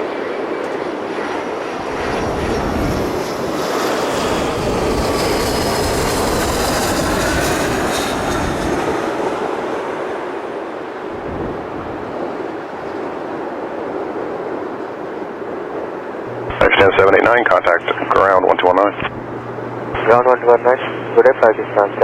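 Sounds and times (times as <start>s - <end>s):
jet engines landing: 0.0s - 22.0s.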